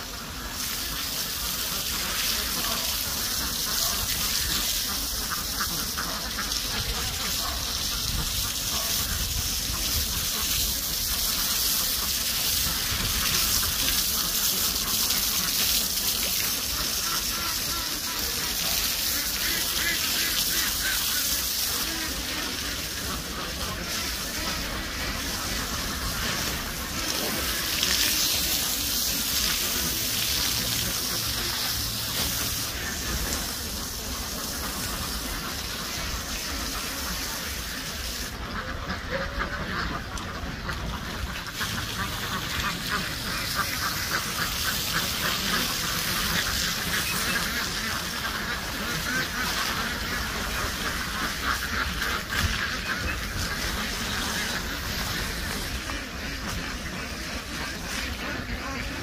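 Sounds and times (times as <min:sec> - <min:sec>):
water gushing: 0:00.0 - 0:59.0.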